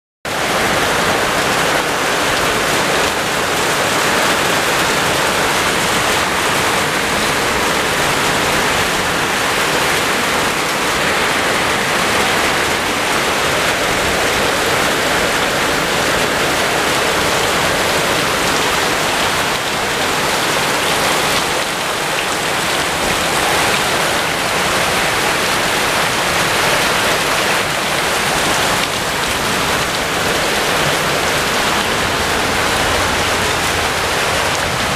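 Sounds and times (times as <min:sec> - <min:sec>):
heavy rain on concrete: 0:00.3 - 0:34.9.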